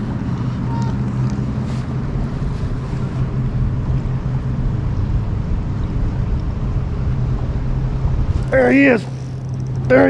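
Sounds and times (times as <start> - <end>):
boat motor humming: 0.0 - 10.0
moving water: 0.0 - 10.0
wind on microphone: 0.0 - 10.0.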